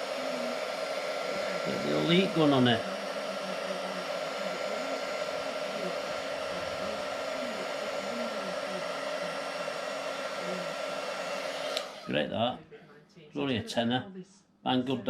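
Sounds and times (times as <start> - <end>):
heat gun blowing: 0.0 - 12.2.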